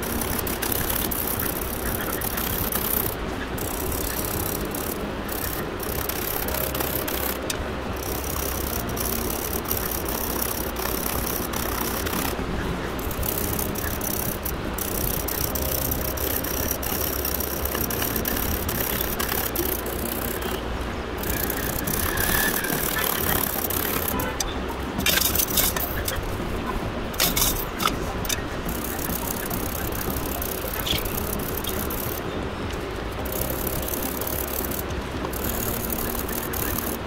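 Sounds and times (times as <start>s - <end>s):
wire and gravel rattling clicks: 0.0s - 20.6s, 21.2s - 26.3s, 27.1s - 37.0s
wire twisting by hand: 0.0s - 20.6s, 21.2s - 26.3s, 27.1s - 37.0s
steady background rush: 0.0s - 37.0s.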